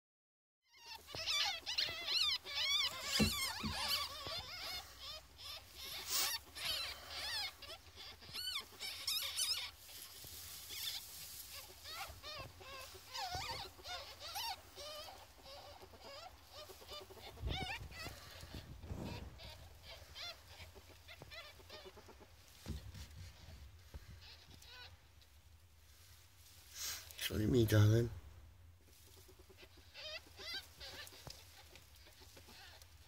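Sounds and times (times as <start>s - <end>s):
ferret kits squeaking: 0.7s - 25.4s, 28.9s - 33.0s.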